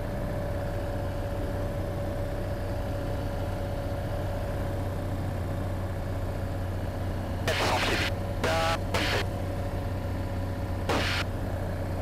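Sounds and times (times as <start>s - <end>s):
plane engine droning in cabin: 0.0s - 12.0s.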